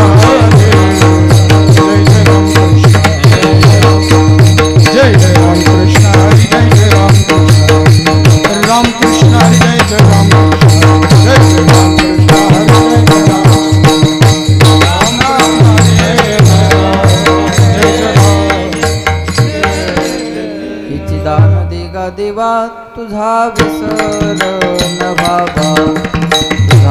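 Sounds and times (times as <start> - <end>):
small hand cymbals ringing: 0.0 - 21.0, 23.6 - 26.9.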